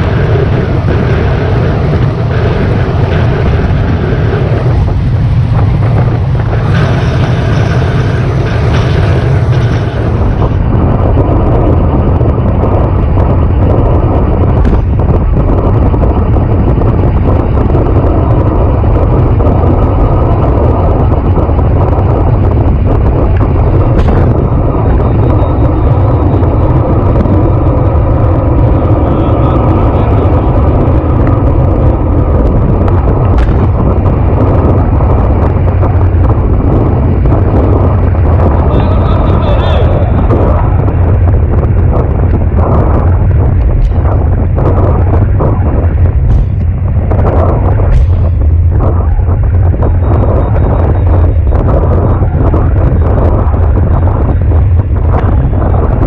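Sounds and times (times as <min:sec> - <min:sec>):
tyre and road noise: 0:00.0 - 0:56.0
wind rush on microphone: 0:00.0 - 0:56.0.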